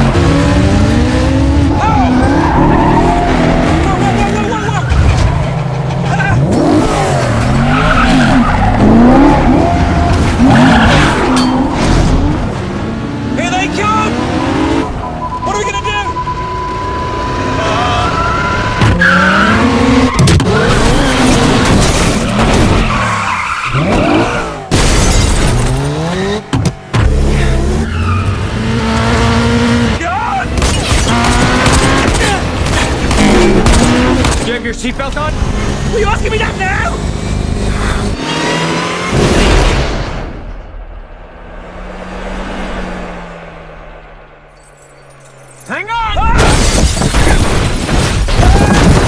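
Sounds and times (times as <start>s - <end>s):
tyres skidding and squealing: 0.0s - 40.7s, 41.3s - 49.0s
car engines revving: 0.0s - 45.8s.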